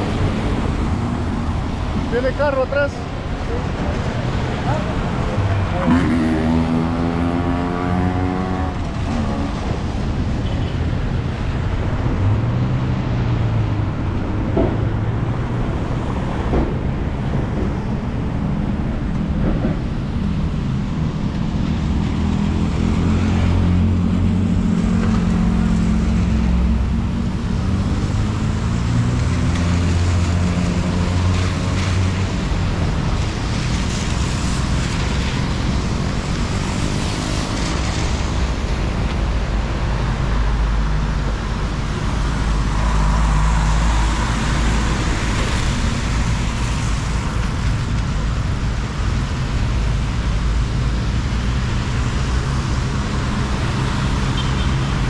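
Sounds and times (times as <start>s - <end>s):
vehicle engines humming: 0.0s - 55.0s.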